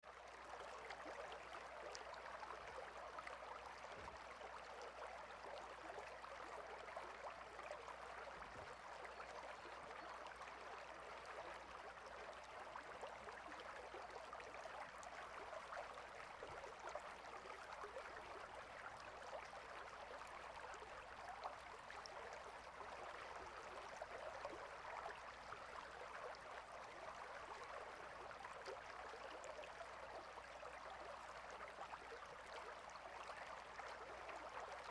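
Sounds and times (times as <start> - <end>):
faint running water: 0.0 - 34.9.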